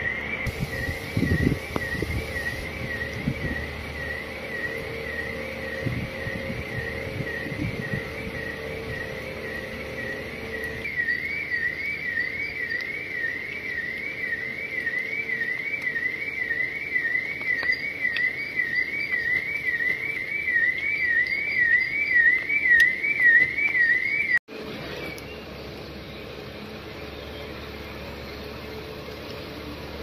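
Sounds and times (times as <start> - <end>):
electronic siren sweeping: 0.0 - 24.4.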